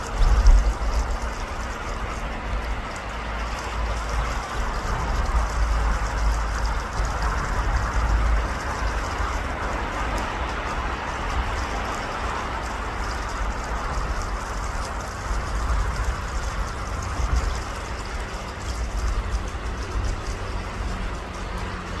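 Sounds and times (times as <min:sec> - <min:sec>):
flowing water rushing: 0:00.0 - 0:22.0
low wind rumble: 0:00.0 - 0:22.0.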